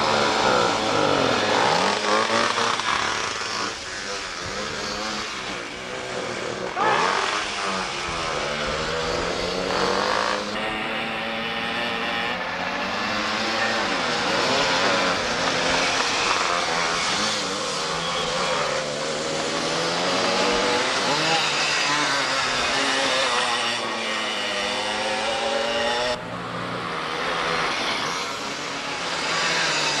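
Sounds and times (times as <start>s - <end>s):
go-kart engines revving: 0.0s - 30.0s.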